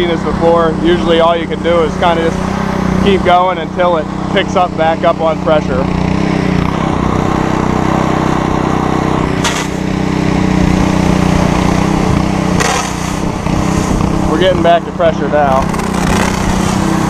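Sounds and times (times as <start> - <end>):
pressure washer engine running: 0.0 - 17.0.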